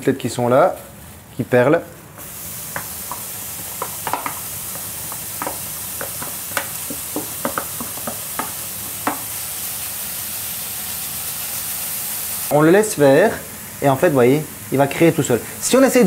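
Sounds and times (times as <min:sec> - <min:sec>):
bacon sizzling in frying pan: 0:02.0 - 0:16.0.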